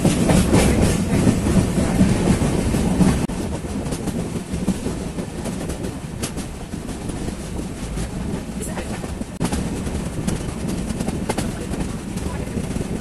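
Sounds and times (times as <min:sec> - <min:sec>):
train clatter: 0:00.0 - 0:13.0
train wheels rumbling on rails: 0:00.0 - 0:13.0.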